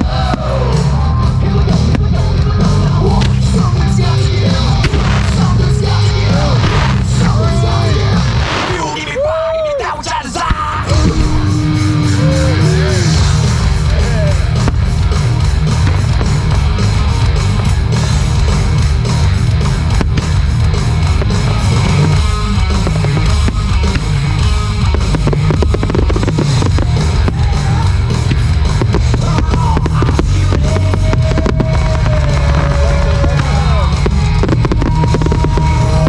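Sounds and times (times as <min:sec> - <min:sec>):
firework bursts and crackles: 0:00.0 - 0:09.1, 0:12.3 - 0:36.0
rock music: 0:00.0 - 0:36.0.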